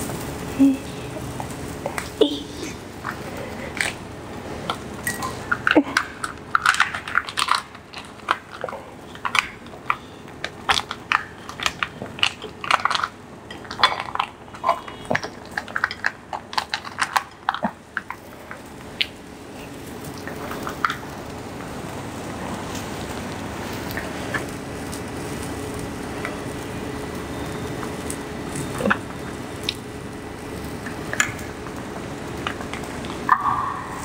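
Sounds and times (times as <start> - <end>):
crisp lettuce leaves crackling: 0.0 - 34.0.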